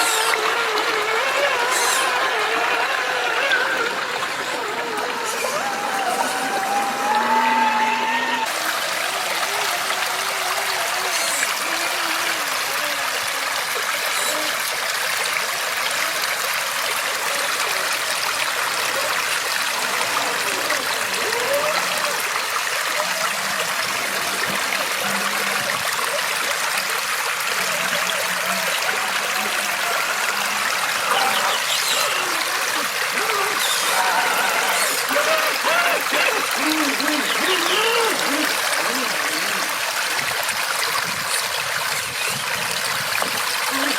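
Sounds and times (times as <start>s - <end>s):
river water flowing: 0.0s - 43.9s.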